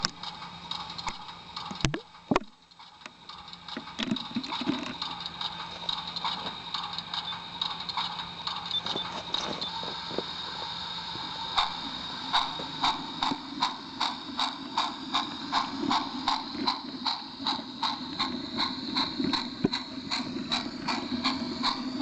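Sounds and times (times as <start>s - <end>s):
small train humming and whining: 0.0s - 22.0s
train clicking and knocking: 0.0s - 22.0s.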